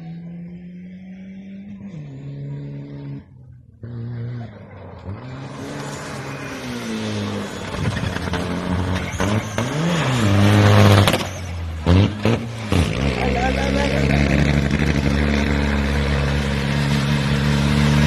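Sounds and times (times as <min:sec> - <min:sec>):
rally car engine accelerating: 0:00.0 - 0:18.0.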